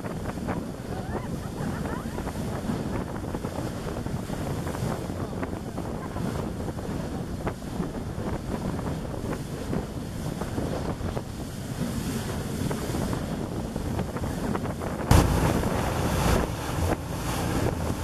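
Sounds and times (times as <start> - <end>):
bow wave splashing along hull: 0.0 - 18.0
wind buffeting microphone: 0.0 - 18.0.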